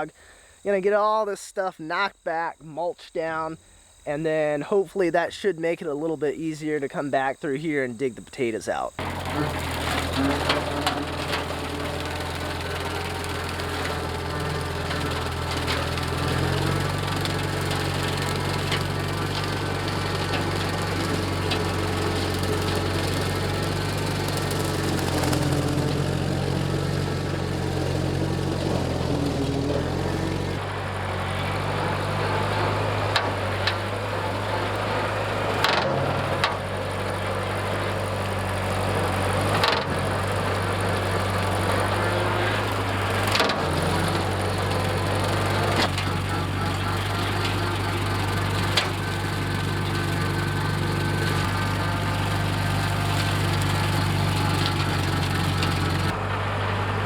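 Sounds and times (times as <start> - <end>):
tractor engine running: 8.0 - 57.0
rotary mower cutting weeds: 8.4 - 57.0.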